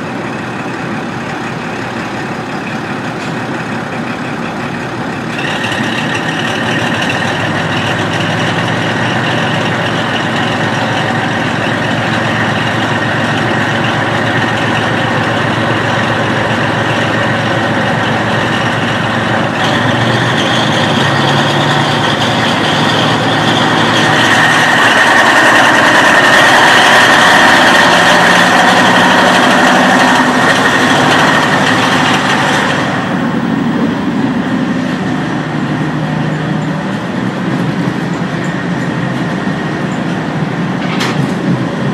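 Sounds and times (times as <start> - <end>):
railcar diesel engine running: 0.0 - 41.9.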